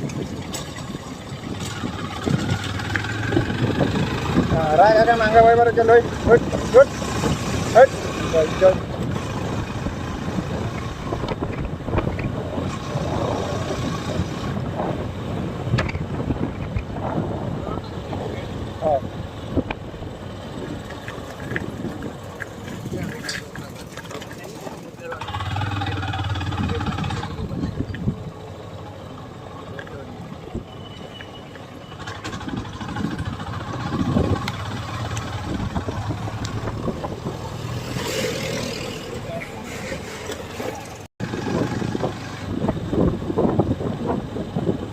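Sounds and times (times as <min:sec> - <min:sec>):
wind buffeting microphone: 0:00.0 - 0:25.0, 0:25.6 - 0:28.4, 0:32.1 - 0:40.0, 0:40.7 - 0:44.9
motorcycle engine rumble: 0:00.0 - 0:44.9.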